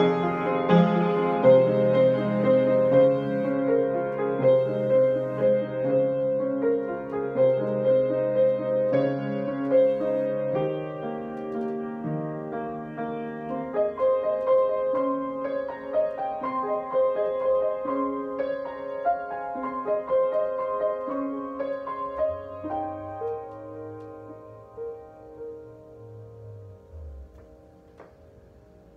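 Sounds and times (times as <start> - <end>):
piano playing a waltz: 0.0 - 28.9.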